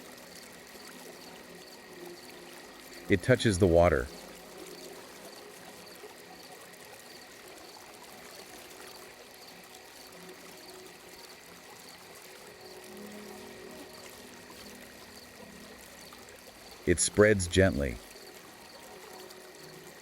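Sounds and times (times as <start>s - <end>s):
water flowing and trickling: 0.0s - 20.0s.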